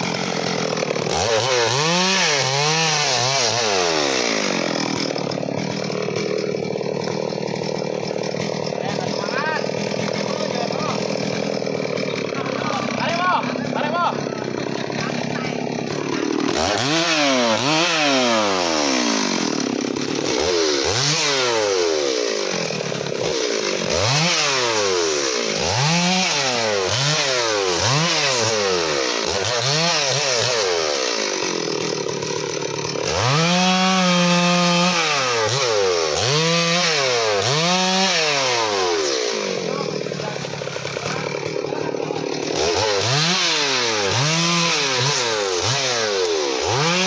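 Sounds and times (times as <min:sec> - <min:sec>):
chainsaw revving and idling: 0:00.0 - 0:47.0.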